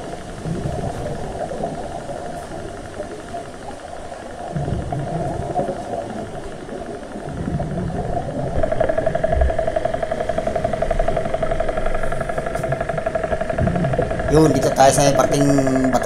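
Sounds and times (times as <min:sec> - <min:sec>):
motor droning underwater: 0:00.0 - 0:16.0.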